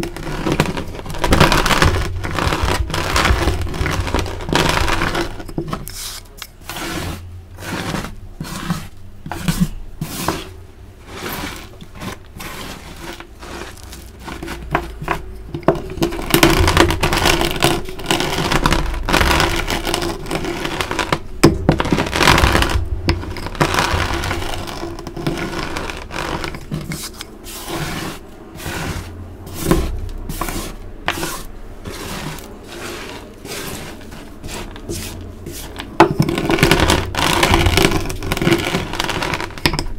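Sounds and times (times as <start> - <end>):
roller crunching chalk pieces: 0.0 - 39.9.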